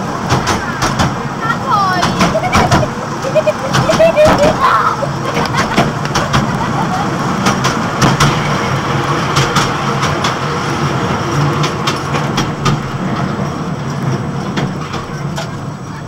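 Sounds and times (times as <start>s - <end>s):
low engine drone: 0.0s - 16.0s
wagons clicking and rattling: 0.0s - 16.0s.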